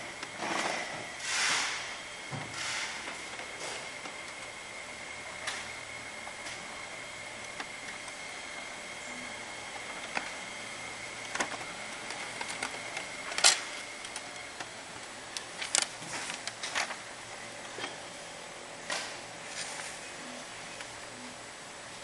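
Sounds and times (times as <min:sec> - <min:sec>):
laser printer whine: 0:00.0 - 0:22.0.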